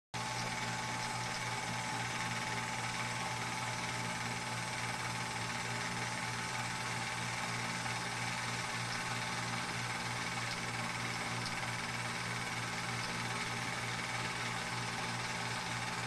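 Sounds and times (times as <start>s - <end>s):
film projector whirring: 0.2s - 16.0s.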